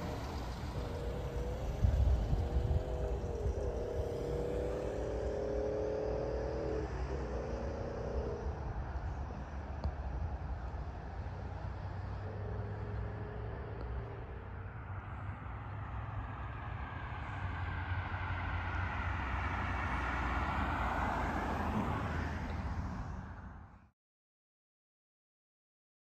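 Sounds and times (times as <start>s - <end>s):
car engine and tyre rumble: 0.0s - 23.9s.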